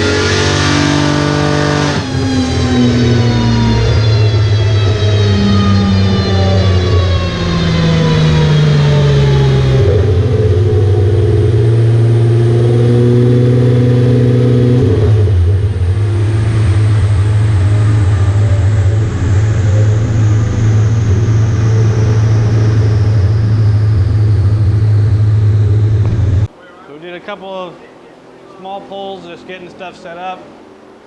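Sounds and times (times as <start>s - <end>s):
car engine running hard: 0.0s - 26.5s
faint high whine: 0.0s - 31.0s.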